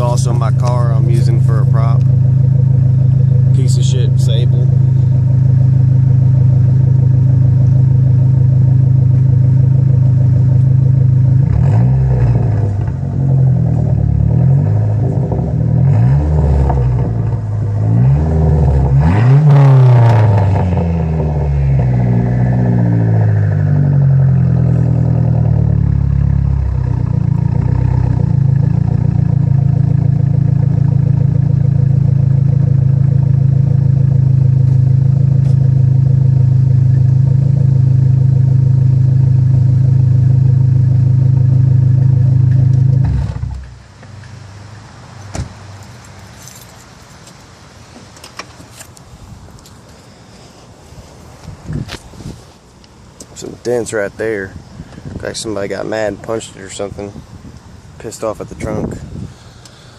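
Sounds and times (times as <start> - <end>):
car engine idling and revving: 0.0 - 50.0.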